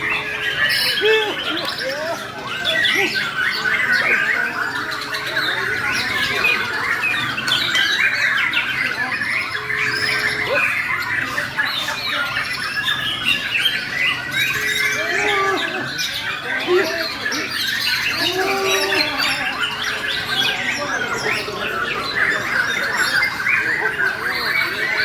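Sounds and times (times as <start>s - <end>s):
bird singing chattering phrases: 0.0s - 25.0s.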